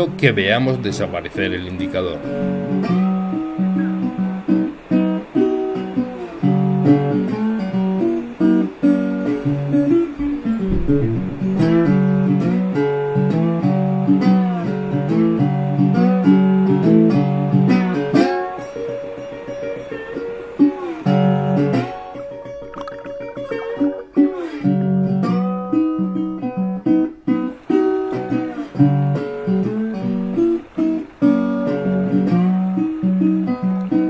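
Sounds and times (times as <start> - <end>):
acoustic guitar picked melody: 0.0 - 34.0.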